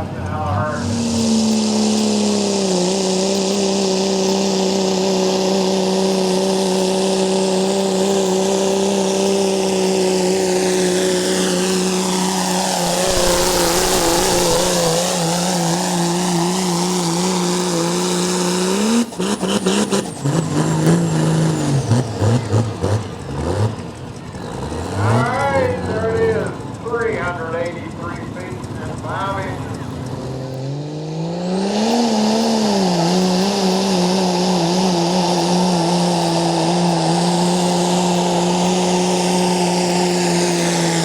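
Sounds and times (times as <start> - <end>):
engine stuttering: 0.0 - 41.0
truck engine at high revs: 0.0 - 41.0.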